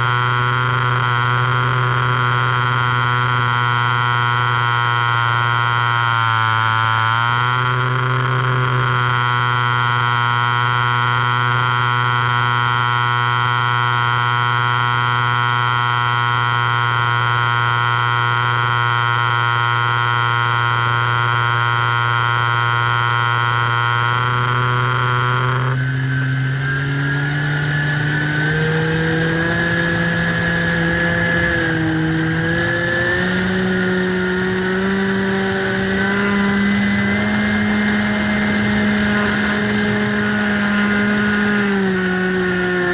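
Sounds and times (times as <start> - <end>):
model plane motor and propeller: 0.0 - 42.9.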